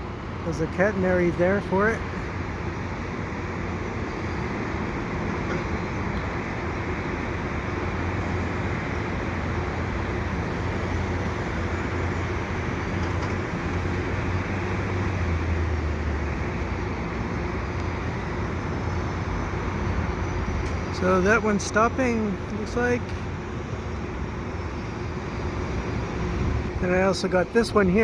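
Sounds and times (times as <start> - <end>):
diesel train rumbling: 0.0 - 28.0
street traffic: 0.0 - 28.0.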